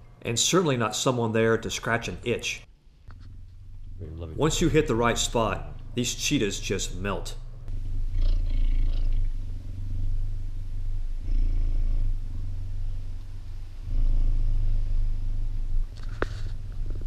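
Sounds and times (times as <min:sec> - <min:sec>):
cheetah purring: 0:01.9 - 0:17.0.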